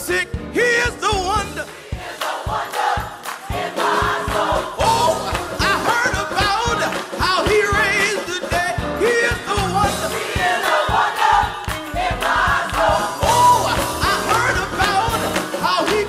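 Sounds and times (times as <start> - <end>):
instrumental accompaniment with beat: 0.0 - 16.0
gospel choir singing: 1.2 - 16.0.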